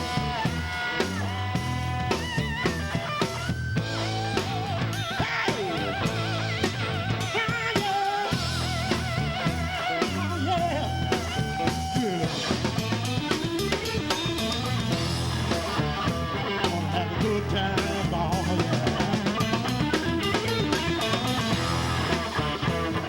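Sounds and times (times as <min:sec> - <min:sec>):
band playing: 0:00.0 - 0:23.0
wavering lead line: 0:00.0 - 0:23.0.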